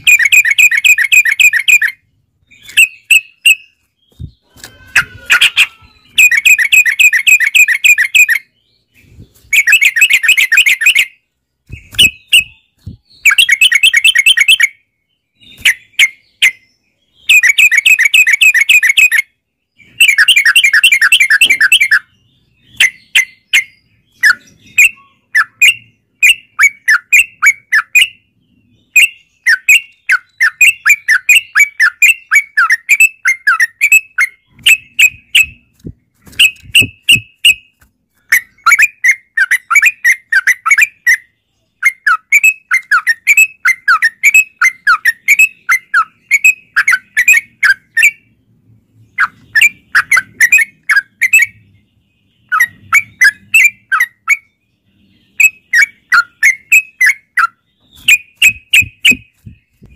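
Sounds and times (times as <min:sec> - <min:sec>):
bulbul chattering song: 0:00.0 - 0:48.4, 0:49.1 - 0:59.9.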